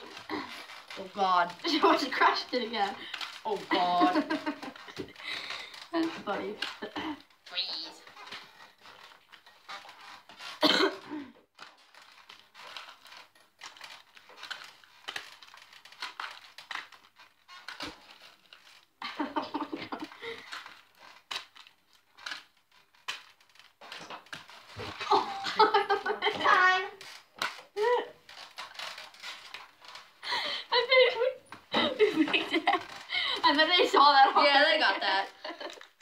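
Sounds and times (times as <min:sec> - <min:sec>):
crackles and clicks: 0:00.0 - 0:36.0
gift wrapping crinkling and tearing: 0:00.0 - 0:36.0.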